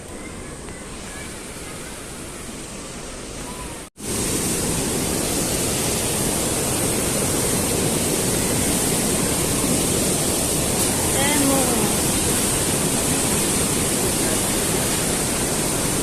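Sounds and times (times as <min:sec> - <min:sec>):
stream and waterfalls rushing: 0:00.0 - 0:16.0.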